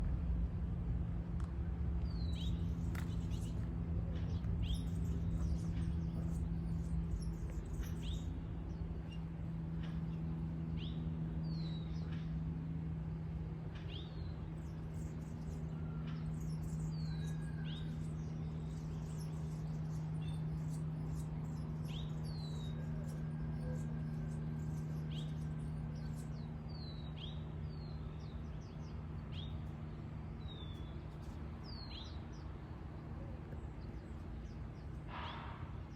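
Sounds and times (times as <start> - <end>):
steady low hum: 0.0 - 35.9
small birds chirping: 1.3 - 35.9.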